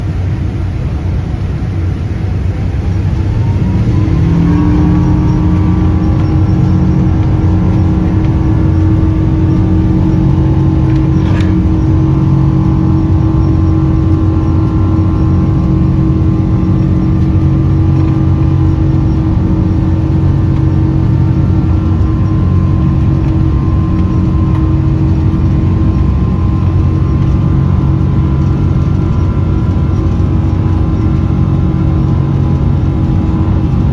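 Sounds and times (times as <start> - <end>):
jet engines spooling up: 1.2 - 33.9.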